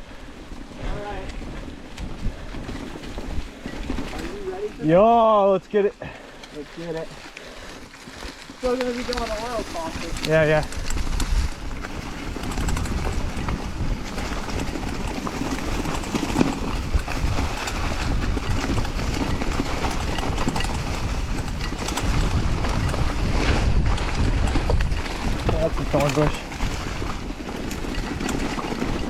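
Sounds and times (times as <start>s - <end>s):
tyres rolling over dirt and rocks: 0.3s - 29.0s
bike clattering over bumps: 0.6s - 5.3s, 6.0s - 29.0s.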